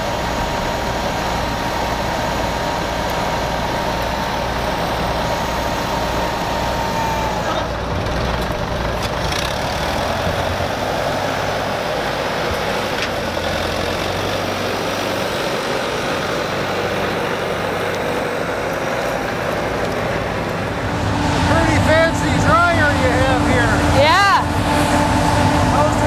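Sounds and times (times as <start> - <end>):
combine engine running: 0.0 - 26.0
tractor engine running: 0.0 - 26.0.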